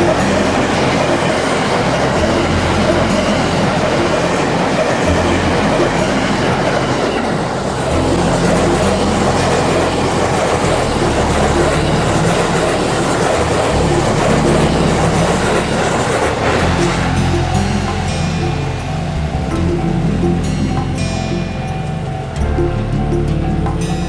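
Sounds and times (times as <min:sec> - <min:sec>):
train wheels rumbling on rails: 0:00.0 - 0:22.7.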